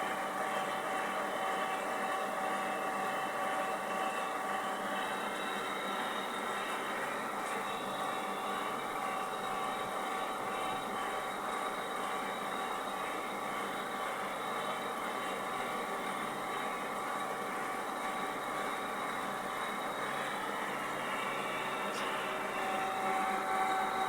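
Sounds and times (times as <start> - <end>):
milling machine whirring: 0.0 - 24.0.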